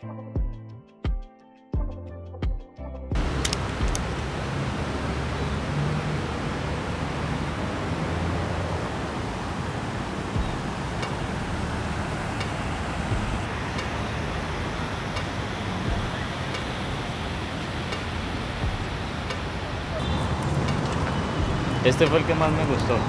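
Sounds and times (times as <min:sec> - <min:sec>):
river rushing over stones: 0:03.2 - 0:23.0.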